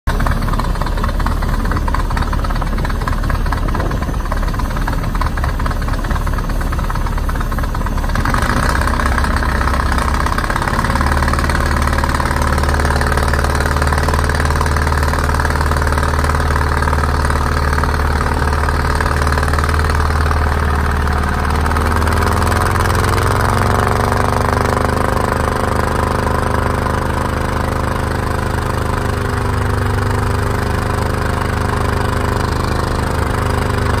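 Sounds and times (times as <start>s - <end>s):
diesel engine running: 0.1s - 34.0s.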